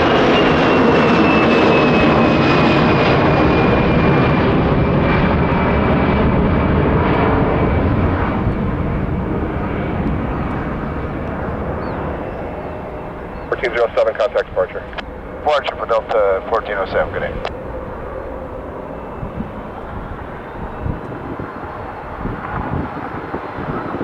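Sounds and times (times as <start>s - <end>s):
jet engine roar with high whine: 0.0s - 24.0s.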